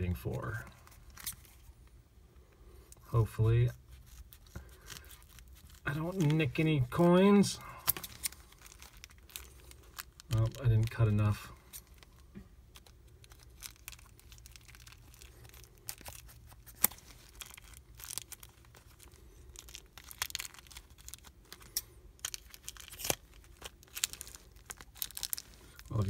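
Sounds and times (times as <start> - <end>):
plastic crinkling and crackling: 3.5 - 26.0.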